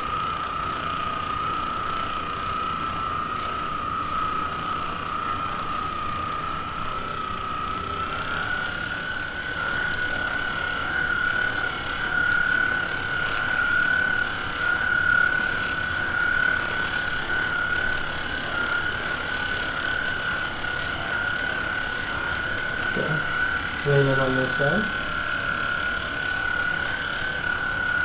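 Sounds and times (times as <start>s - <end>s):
massage gun motor whine: 0.0s - 28.0s.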